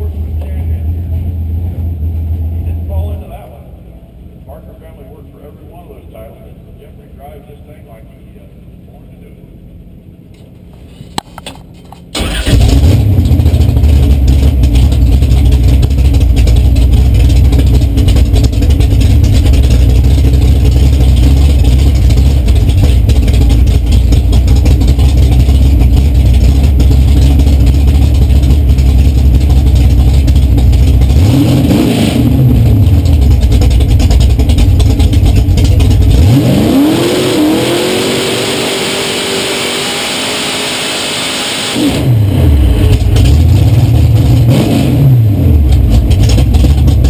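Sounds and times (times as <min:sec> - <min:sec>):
race car engine idling: 0:00.0 - 0:39.2, 0:41.8 - 0:47.0.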